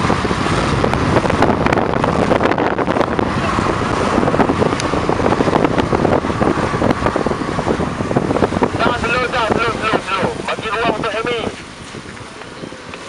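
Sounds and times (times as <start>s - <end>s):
car engines passing: 0.0s - 13.0s
wind buffeting microphone: 0.0s - 13.0s.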